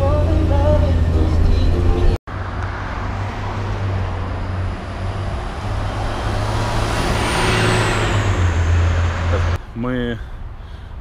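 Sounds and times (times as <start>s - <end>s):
bus engine and tyre noise: 0.0s - 11.0s.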